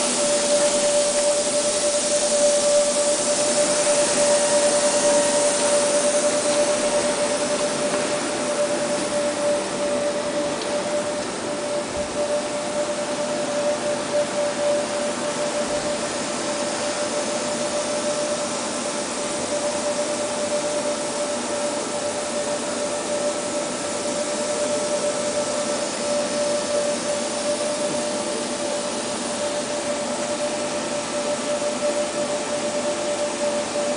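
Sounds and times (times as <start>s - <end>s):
machinery hum and hiss: 0.0s - 33.9s
mid-pitched whine: 0.0s - 33.9s.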